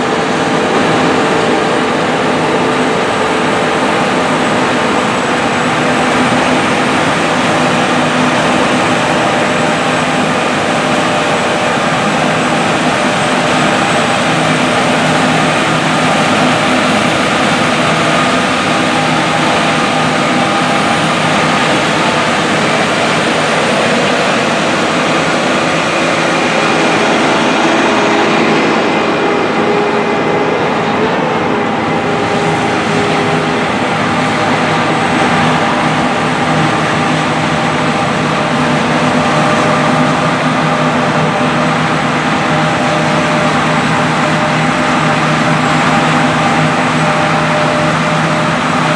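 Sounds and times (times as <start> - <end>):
combine harvester engine drone: 0.0 - 48.9.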